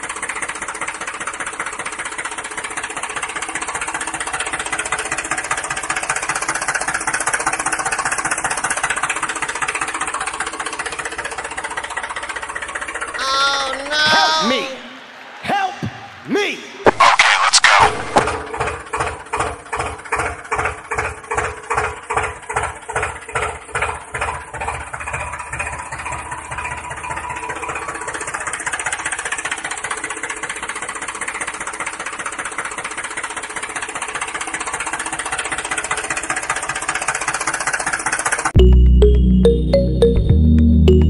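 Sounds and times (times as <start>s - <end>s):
tractor engine chugging: 0.0s - 15.2s, 18.0s - 40.2s.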